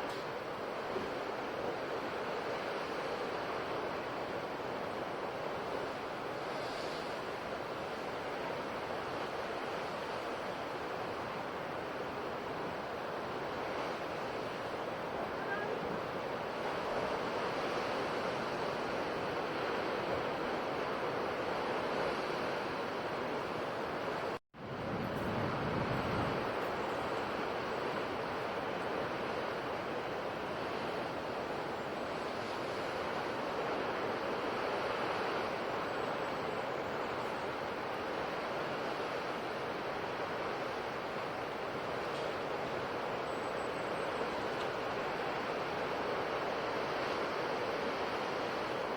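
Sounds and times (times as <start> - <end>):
sea waves washing on shore: 0.0 - 48.9.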